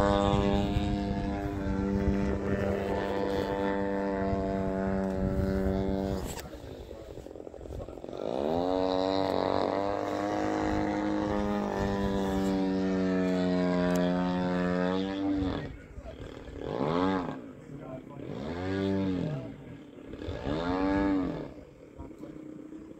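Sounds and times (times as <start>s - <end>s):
model airplane motor droning: 0.0s - 22.9s.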